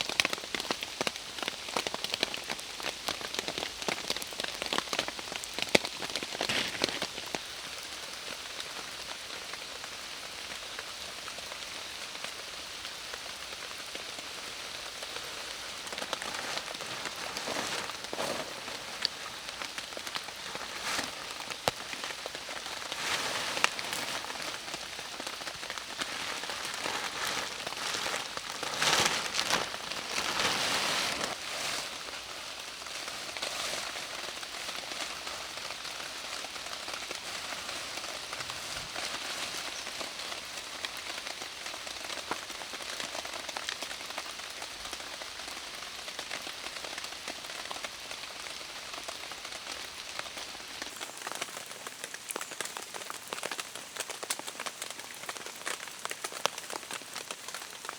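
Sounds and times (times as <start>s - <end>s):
heavy rain falling: 0.0s - 57.9s
raindrops ticking: 0.0s - 57.9s.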